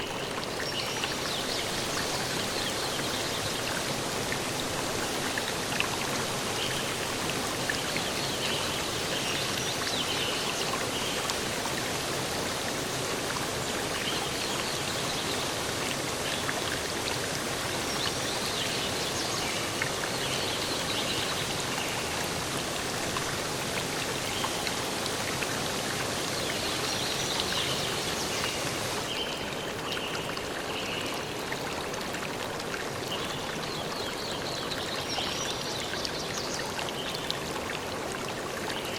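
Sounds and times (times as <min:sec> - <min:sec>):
stream rushing: 0:00.0 - 0:34.0.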